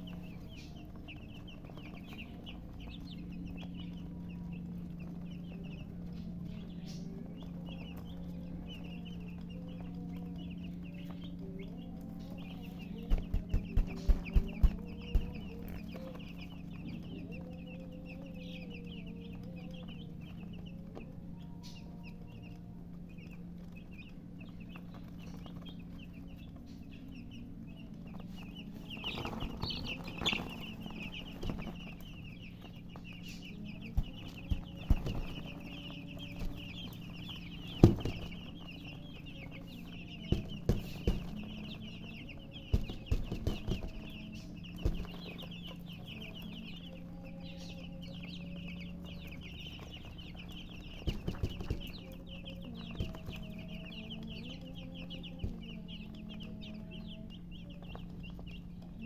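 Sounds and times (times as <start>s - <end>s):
chicks peeping: 0.0s - 59.0s
steady low hum: 0.0s - 59.0s.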